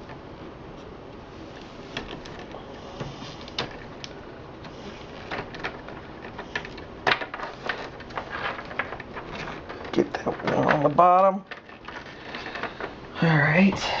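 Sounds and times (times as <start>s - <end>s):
cables and connectors clicking: 1.1s - 13.2s.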